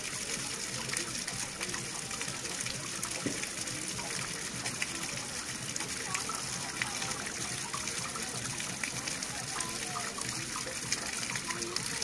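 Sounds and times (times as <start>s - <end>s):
running water flowing: 0.0s - 12.0s.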